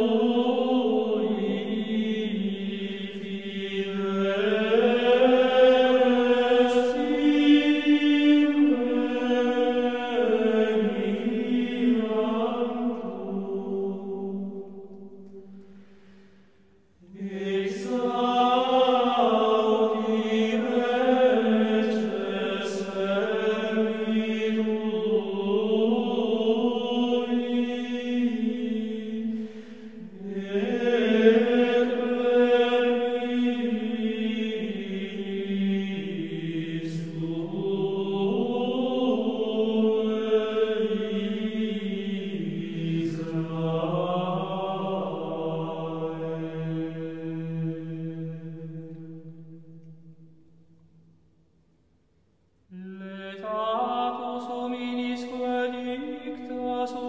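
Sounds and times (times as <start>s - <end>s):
chanting voices: 0.0s - 50.4s, 52.7s - 57.0s.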